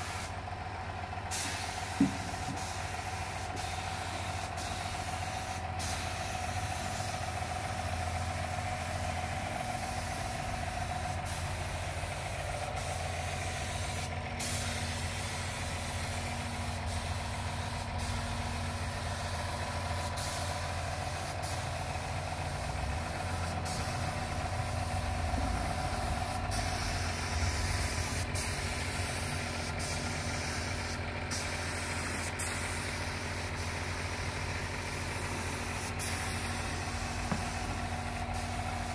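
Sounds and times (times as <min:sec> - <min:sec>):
spray gun hissing: 0:00.0 - 0:00.3, 0:01.3 - 0:22.4, 0:23.0 - 0:25.0, 0:25.6 - 0:38.9
air compressor humming: 0:00.0 - 0:38.9.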